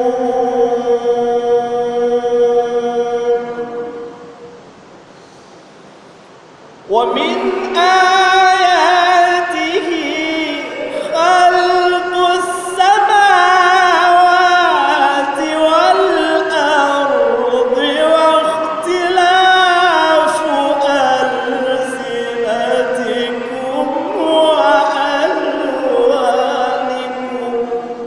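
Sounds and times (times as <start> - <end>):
man reciting in melodic chant: 0.0 - 4.2, 6.8 - 28.0.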